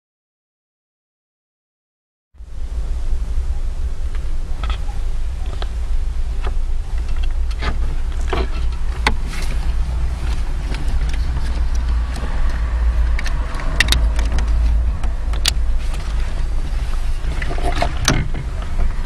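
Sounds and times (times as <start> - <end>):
steady low rumble: 2.4 - 19.0.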